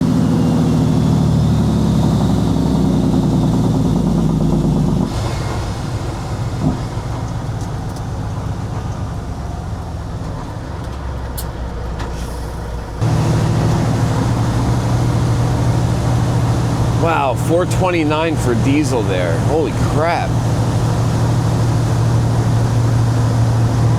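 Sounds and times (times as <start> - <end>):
truck diesel engine driving: 0.0 - 23.9.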